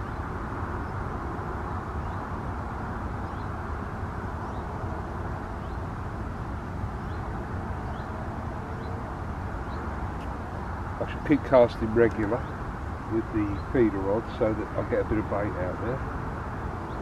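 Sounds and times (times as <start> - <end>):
distant motorway traffic hum: 0.0 - 17.0.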